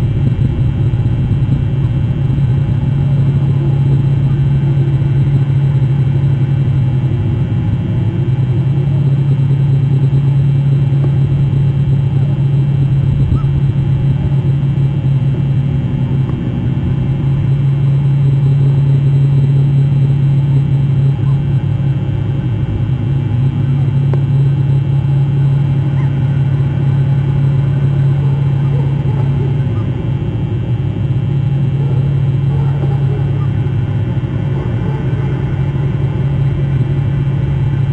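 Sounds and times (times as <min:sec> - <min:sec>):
vehicle engine hum: 0:00.0 - 0:37.9.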